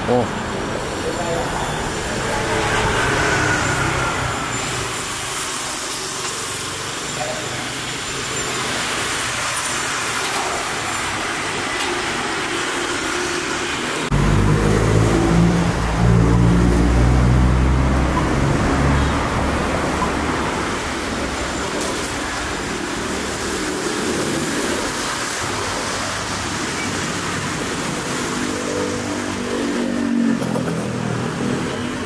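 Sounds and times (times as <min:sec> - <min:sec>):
city street traffic: 0:00.0 - 0:32.0
vehicle engine running nearby: 0:00.0 - 0:32.0.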